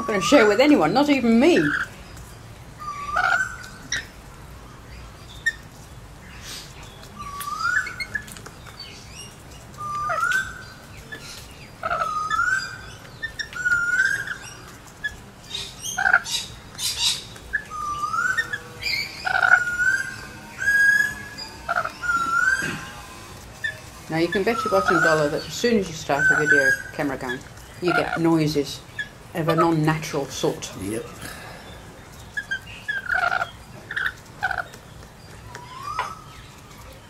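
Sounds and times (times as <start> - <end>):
lorikeets calling: 0.0 - 37.0.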